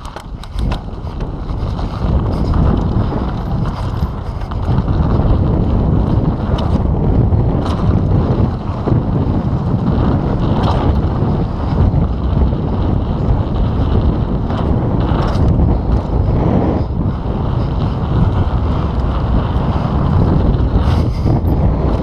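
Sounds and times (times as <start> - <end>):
bike parts rattling: 0.0 - 22.0
tyres on gravel: 0.0 - 22.0
wind on camera microphone: 0.0 - 22.0.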